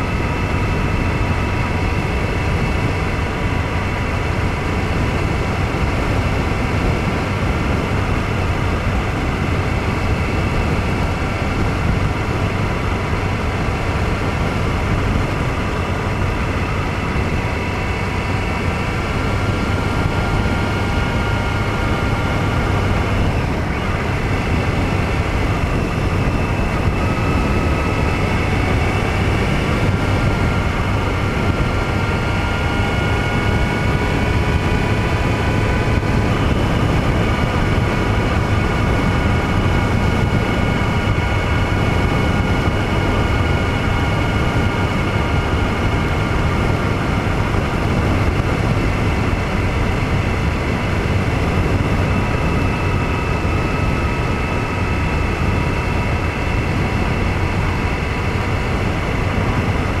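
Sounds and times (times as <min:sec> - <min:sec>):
faint whine: 0:00.0 - 1:00.0
rushing wind noise: 0:00.0 - 1:00.0
vehicle engine drone: 0:00.0 - 1:00.0.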